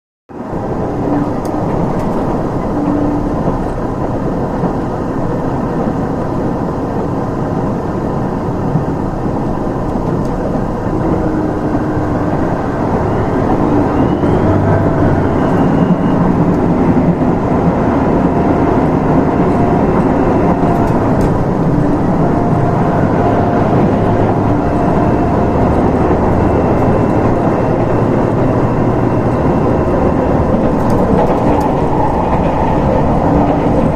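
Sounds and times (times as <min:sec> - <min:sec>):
diesel railcar running noise: 0:00.3 - 0:33.9.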